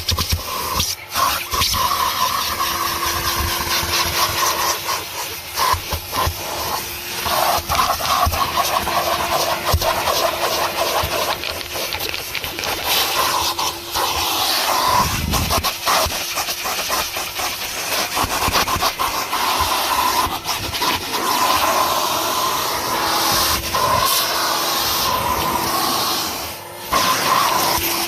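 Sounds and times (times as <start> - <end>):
vacuum cleaner hissing: 0.0 - 28.0.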